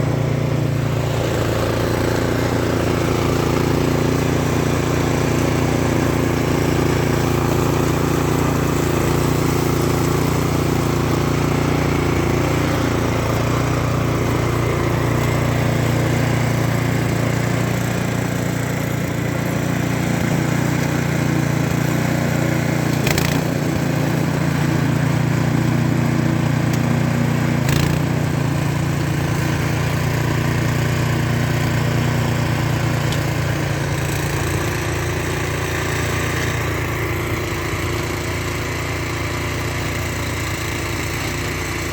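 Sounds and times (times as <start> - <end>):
snow blower engine running: 0.0 - 41.9.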